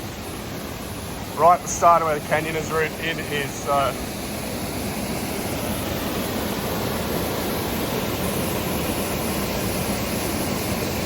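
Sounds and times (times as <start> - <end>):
waterfall roar: 0.0 - 11.0.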